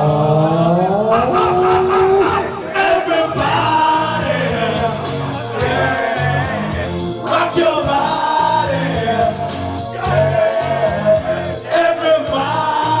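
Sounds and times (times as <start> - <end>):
group of voices singing: 1.2 - 13.0
pop song with steady beat: 2.3 - 13.0.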